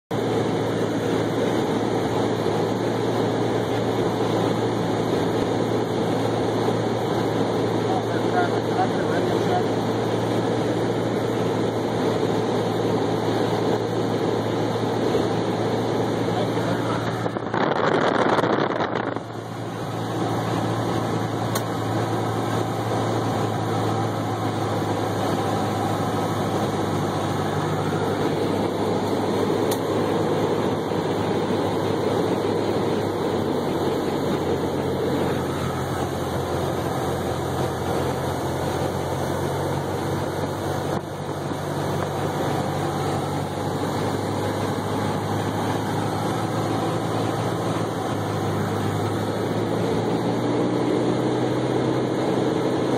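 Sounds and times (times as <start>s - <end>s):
light aircraft engine and propeller: 0.1s - 52.9s.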